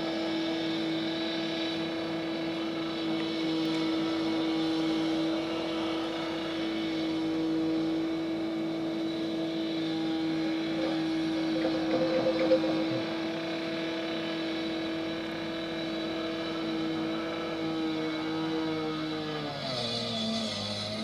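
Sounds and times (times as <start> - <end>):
construction machinery engine droning: 0.0 - 21.0.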